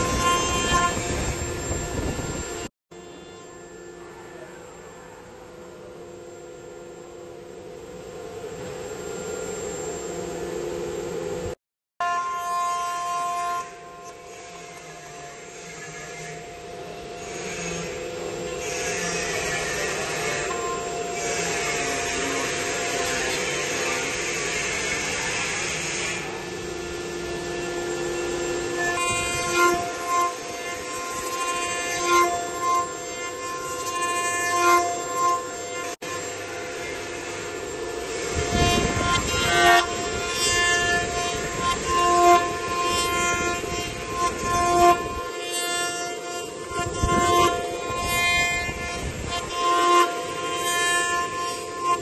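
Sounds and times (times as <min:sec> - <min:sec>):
cutter machining wood: 0:00.0 - 0:04.9, 0:10.0 - 0:52.0
router spindle whining: 0:00.0 - 0:52.0.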